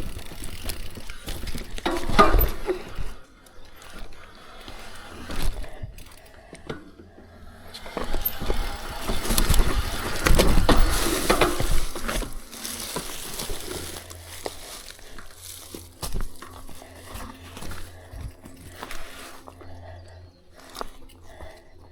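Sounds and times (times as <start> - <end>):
bike chain and frame rattling: 0.0 - 21.9
bike tyres on rough dirt: 0.0 - 21.9.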